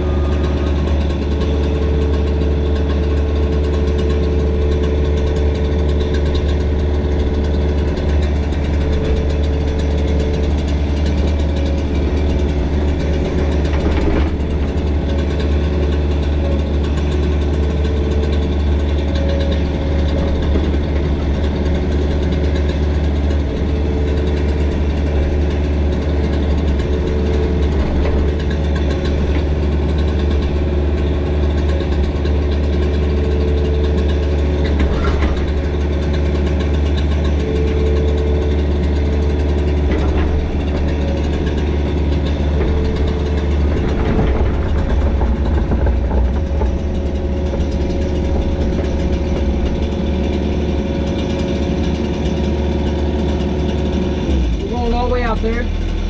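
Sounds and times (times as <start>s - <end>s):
diesel engine running: 0.0s - 56.0s
machine scraping concrete: 0.0s - 56.0s.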